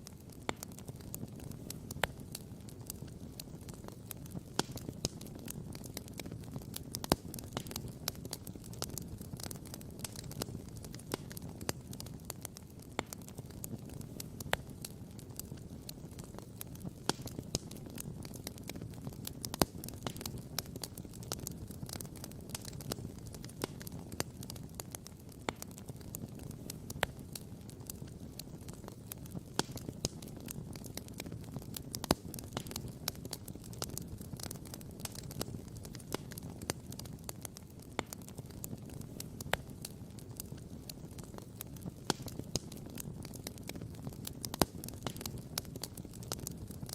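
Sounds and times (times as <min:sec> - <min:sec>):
campfire crackling and popping: 0:00.0 - 0:46.9
low fire rumble: 0:00.0 - 0:46.9.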